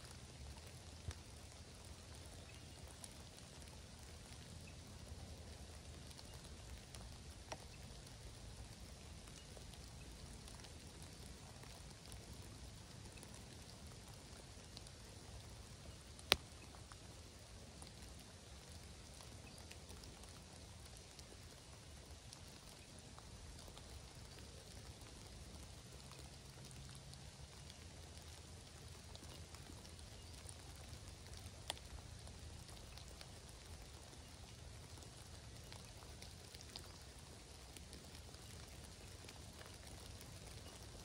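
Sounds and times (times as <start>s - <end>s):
raindrops ticking: 0.0s - 41.0s
soft rain hiss: 0.0s - 41.0s.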